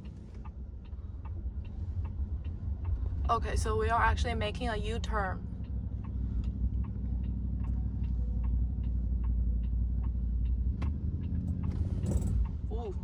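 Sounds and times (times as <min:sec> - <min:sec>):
road noise inside car: 0:00.0 - 0:13.0
turn-signal indicator ticking: 0:00.0 - 0:13.0.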